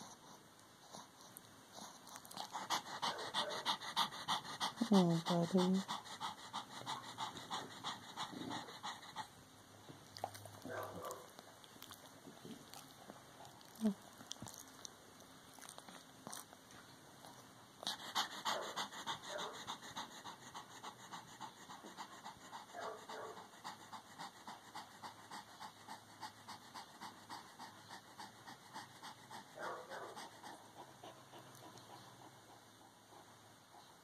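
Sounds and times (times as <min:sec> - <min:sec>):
dog panting: 0:00.0 - 0:09.4, 0:10.1 - 0:14.9, 0:15.6 - 0:34.0.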